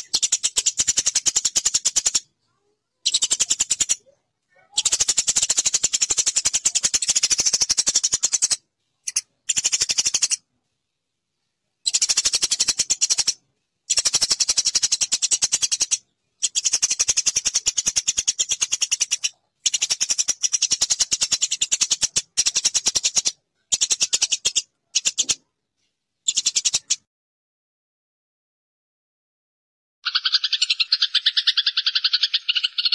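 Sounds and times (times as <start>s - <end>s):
sparrow chirping: 0.0s - 10.4s, 11.8s - 25.4s, 26.2s - 27.0s, 30.0s - 32.9s.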